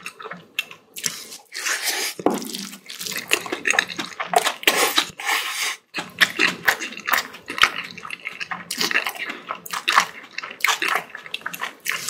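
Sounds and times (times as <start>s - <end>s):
wet chewing and smacking: 0.0s - 5.2s, 5.8s - 12.0s.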